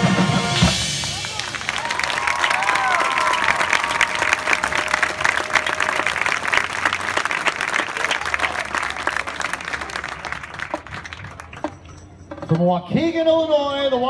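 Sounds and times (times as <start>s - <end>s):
crowd applauding: 0.4s - 11.9s.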